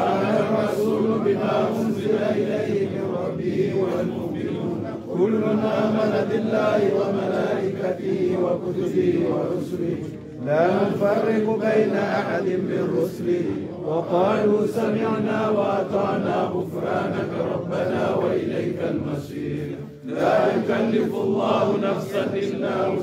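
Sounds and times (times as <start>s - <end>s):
men chanting together: 0.0s - 23.0s.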